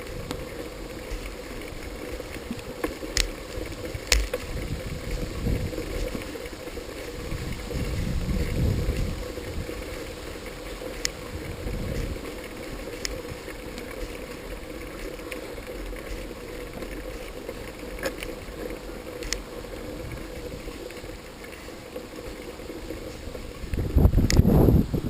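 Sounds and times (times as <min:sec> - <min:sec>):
bike clicks and rattles: 0:00.0 - 0:24.6
bicycle riding rumble: 0:00.0 - 0:25.0
wind buffeting microphone: 0:00.0 - 0:25.0.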